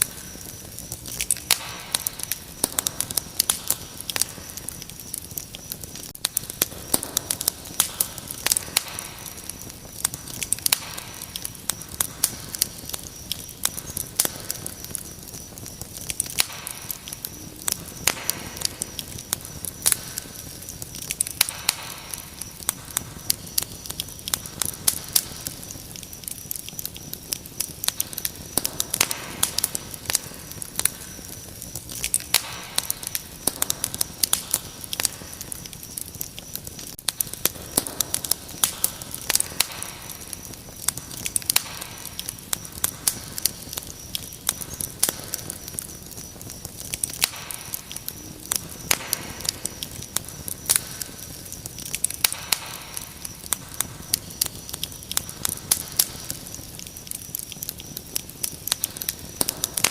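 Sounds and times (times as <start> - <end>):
crickets chirping: 0.0 - 59.9
wood fire crackling and popping: 0.0 - 59.9.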